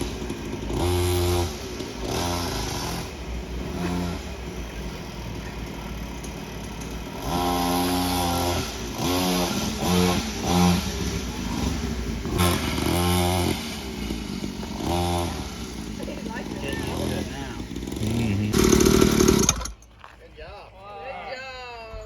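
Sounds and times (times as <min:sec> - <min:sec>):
dirt bike engine revving: 0:00.0 - 0:19.8.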